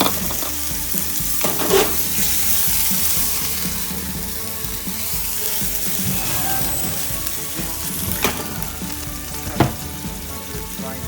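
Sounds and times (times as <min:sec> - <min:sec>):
seafood sizzling in a frying pan: 0:00.0 - 0:11.0.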